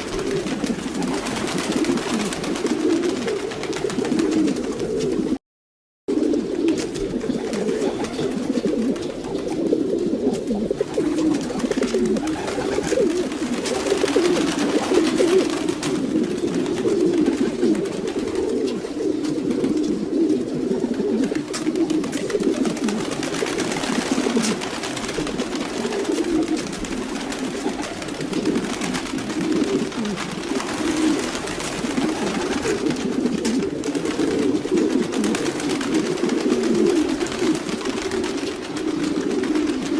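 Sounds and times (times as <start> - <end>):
pigeons cooing: 0.0 - 5.4, 6.1 - 39.9.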